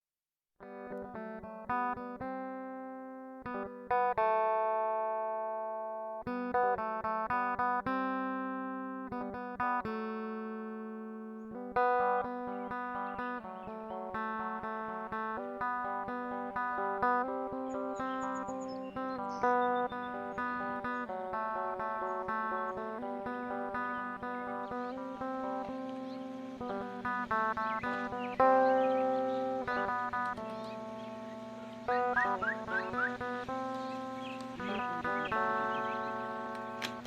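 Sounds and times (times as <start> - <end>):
plucked guitar notes: 0.6 - 37.0.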